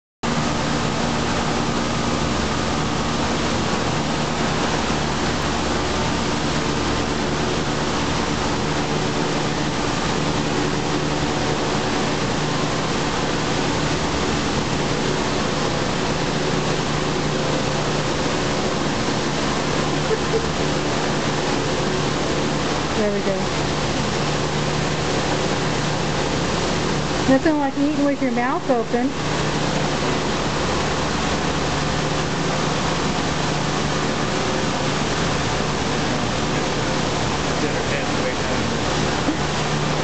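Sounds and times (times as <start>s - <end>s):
fan rushing with low hum: 0.2s - 40.0s.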